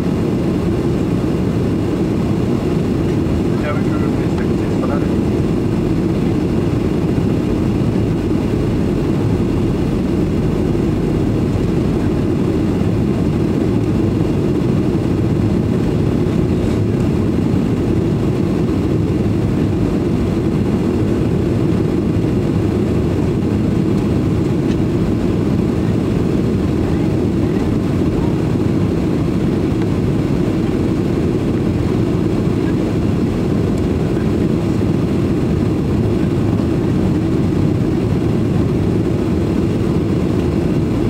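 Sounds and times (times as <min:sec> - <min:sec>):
airliner cabin engine hum: 0:00.0 - 0:41.0.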